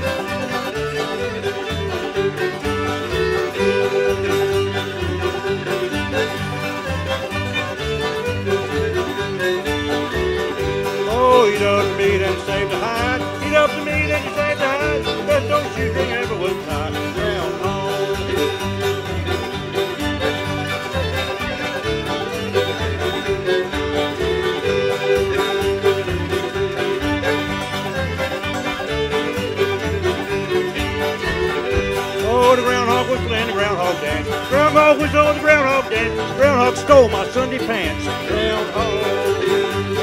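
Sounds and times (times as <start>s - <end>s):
string band playing dance tune: 0.0s - 40.0s.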